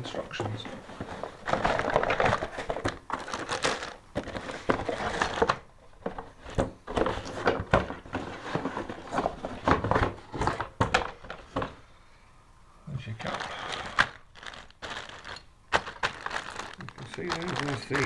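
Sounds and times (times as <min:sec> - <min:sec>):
plastic bags crinkling: 0:01.0 - 0:11.8, 0:13.1 - 0:18.0.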